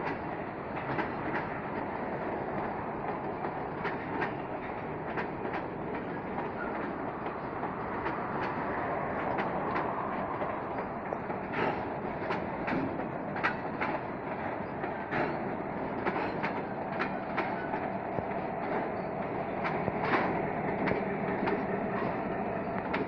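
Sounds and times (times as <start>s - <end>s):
diesel locomotive engine hum: 0.0s - 23.0s
freight train rumble: 0.0s - 23.0s
train wheels clicking over rail joints: 0.0s - 23.0s.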